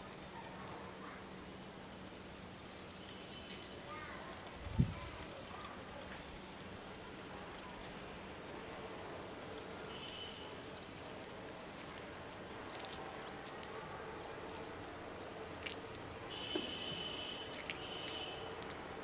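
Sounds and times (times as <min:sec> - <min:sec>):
steady background hiss: 0:00.0 - 0:19.0
small birds chirping: 0:01.6 - 0:18.8.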